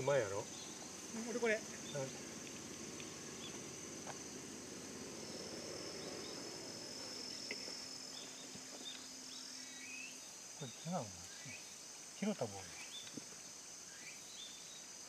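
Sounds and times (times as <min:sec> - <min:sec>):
faint outdoor hush: 0:00.0 - 0:15.0
insects chirring: 0:00.0 - 0:15.0.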